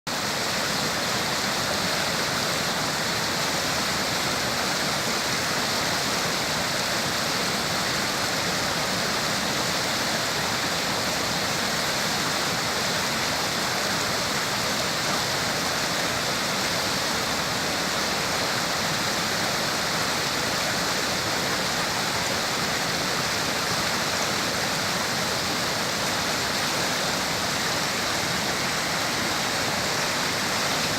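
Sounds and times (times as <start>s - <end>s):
rushing water: 0.1s - 30.9s.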